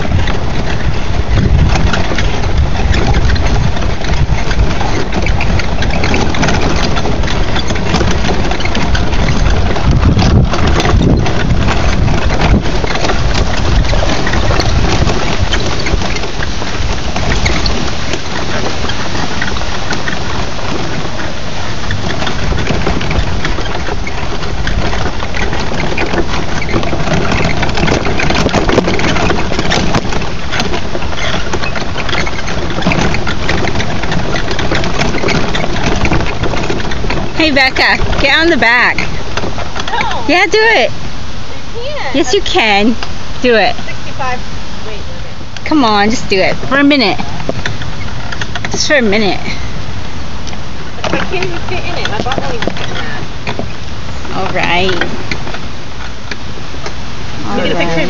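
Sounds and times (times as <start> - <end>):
quad bike engine running: 0.0 - 58.0
wind rumble on microphone: 0.0 - 58.0.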